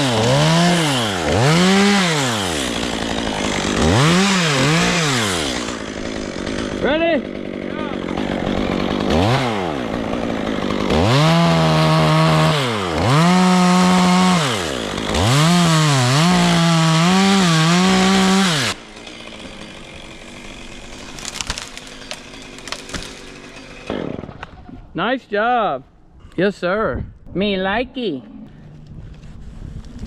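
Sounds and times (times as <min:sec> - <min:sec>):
chainsaw cutting wood: 0:00.0 - 0:24.8.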